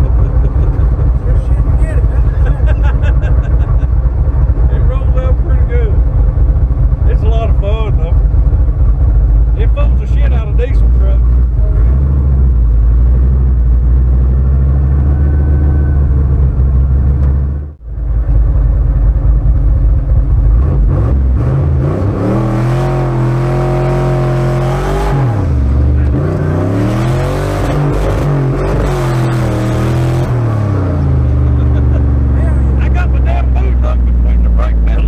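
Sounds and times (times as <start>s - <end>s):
loud car engine revving: 0.0s - 35.0s.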